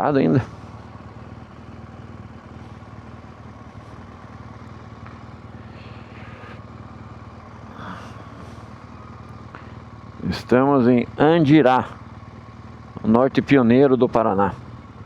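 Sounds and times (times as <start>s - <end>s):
motorcycle engine droning: 0.0s - 15.0s
road and wind noise: 0.0s - 15.0s.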